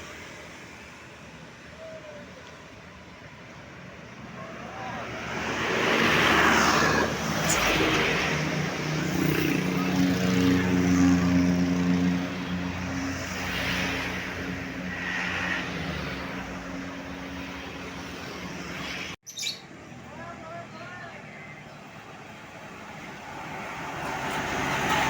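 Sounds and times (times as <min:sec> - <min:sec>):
traffic tyres rushing past: 0:00.0 - 0:19.2, 0:21.8 - 0:25.0.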